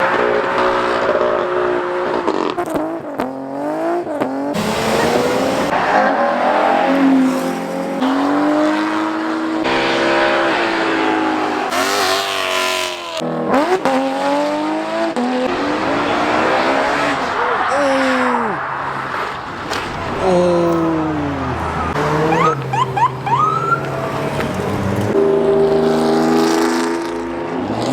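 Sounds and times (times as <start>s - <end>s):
car engines revving and accelerating: 0.0s - 27.9s.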